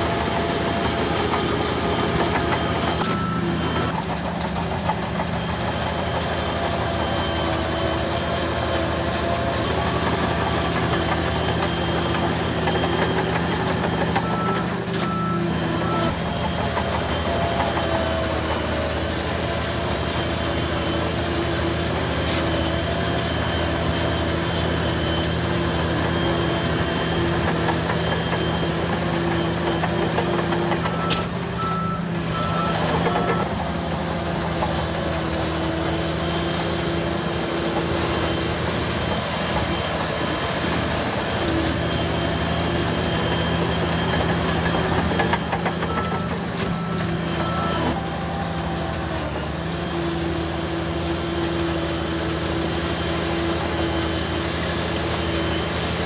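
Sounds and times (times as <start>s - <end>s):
reversing alarm beeping: 0.0s - 4.1s, 4.8s - 49.4s
diesel bulldozers running: 0.0s - 56.0s.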